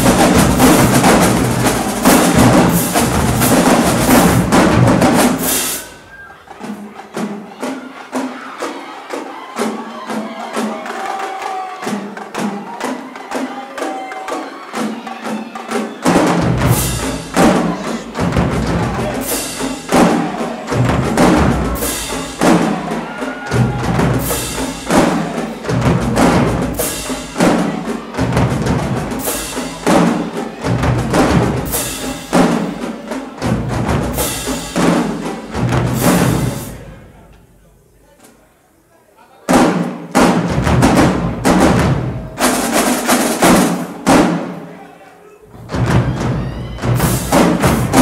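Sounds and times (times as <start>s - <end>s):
snare and tenor drums: 0.0s - 37.4s, 39.5s - 44.8s, 45.6s - 48.0s.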